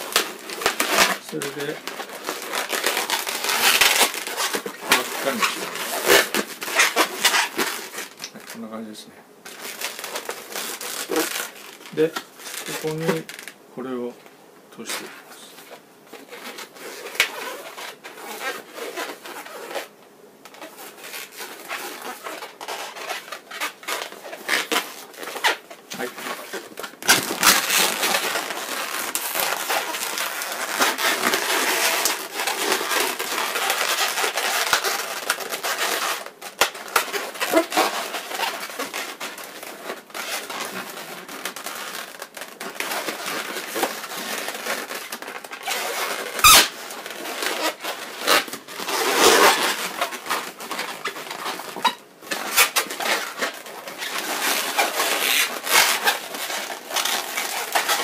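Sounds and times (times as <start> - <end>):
balloons squeaking and rubbing: 0.0 - 14.1, 14.8 - 58.0.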